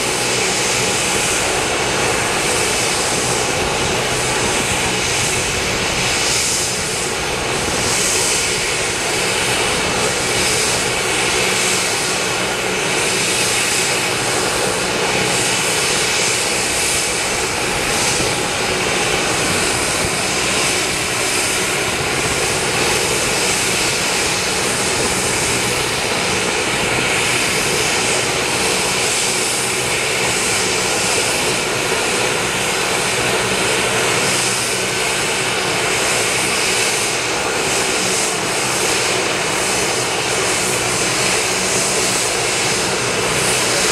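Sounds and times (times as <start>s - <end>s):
helicopter engines and rotor running: 0.0s - 43.9s.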